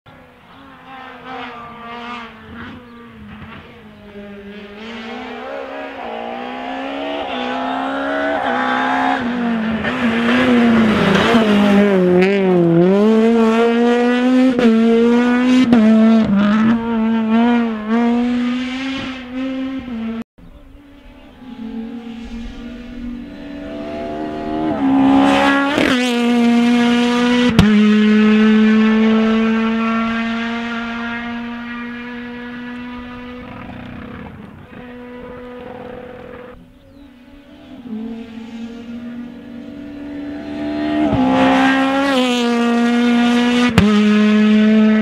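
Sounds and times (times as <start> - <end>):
rally car engine passing: 0.1 - 45.0.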